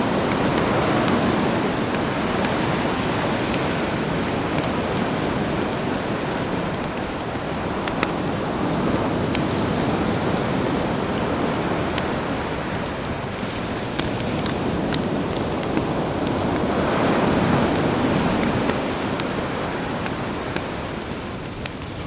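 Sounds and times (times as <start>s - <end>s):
campfire crackling and popping: 0.0s - 22.0s
sea waves: 0.0s - 22.0s.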